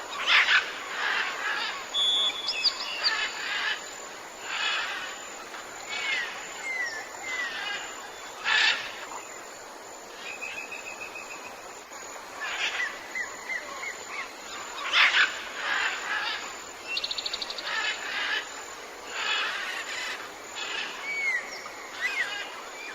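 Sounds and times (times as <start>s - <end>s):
forest ambience hiss: 0.0s - 22.9s
jungle birds calling: 0.0s - 22.9s.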